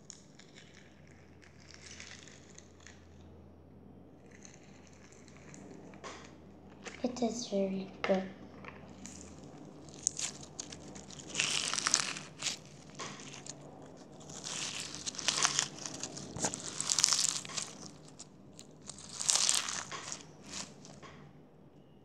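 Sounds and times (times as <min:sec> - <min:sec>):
crunchy slime crackling and popping: 0:00.0 - 0:03.2, 0:04.2 - 0:07.3, 0:08.1 - 0:21.2.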